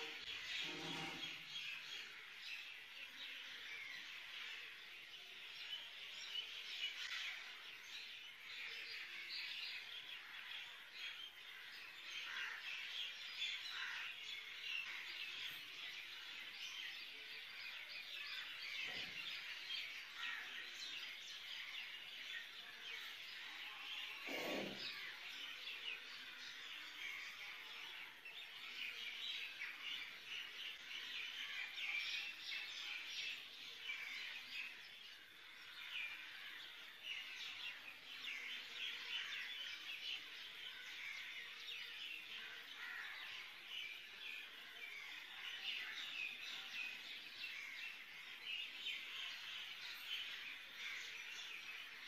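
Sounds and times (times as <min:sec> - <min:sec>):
small birds chirping chorus: 0:00.0 - 0:52.0.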